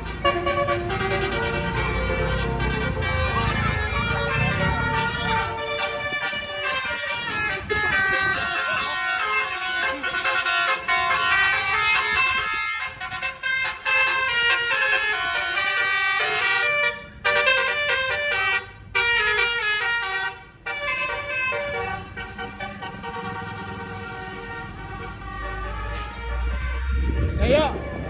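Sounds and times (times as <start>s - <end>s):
low vehicle engine: 0.0s - 28.0s
musical bus horn playing a tune: 0.0s - 28.0s.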